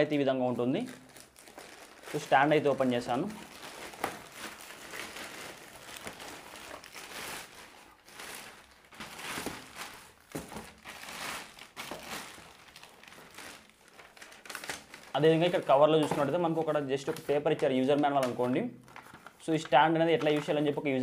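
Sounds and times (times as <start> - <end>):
plastic bag crinkling: 0.5 - 20.7.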